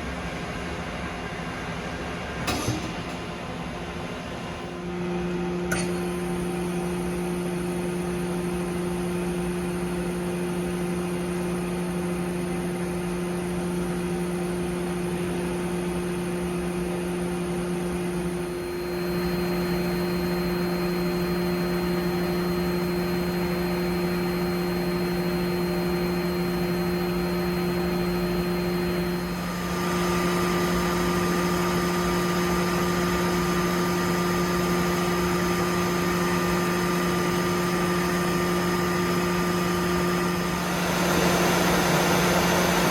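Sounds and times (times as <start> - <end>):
lathe humming and whining: 3.3 - 42.9.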